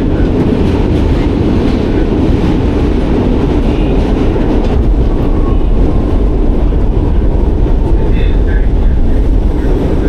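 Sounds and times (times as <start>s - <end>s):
subway train wheels rumbling: 0.0s - 10.0s.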